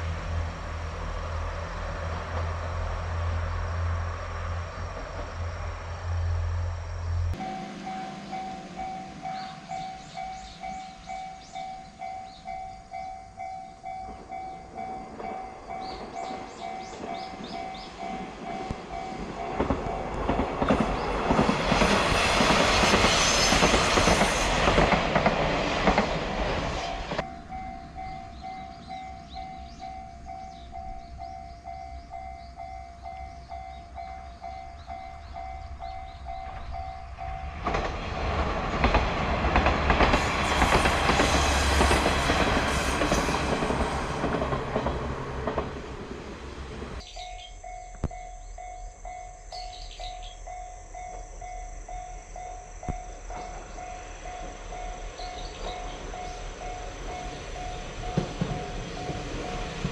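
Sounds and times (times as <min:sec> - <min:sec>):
diesel railcar rumbling past: 0:00.0 - 0:59.9.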